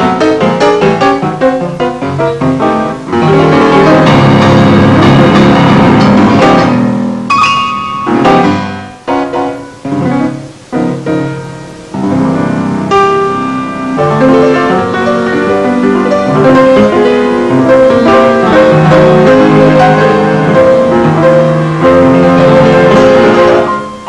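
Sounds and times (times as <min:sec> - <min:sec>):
grand piano playing: 0:00.0 - 0:24.0.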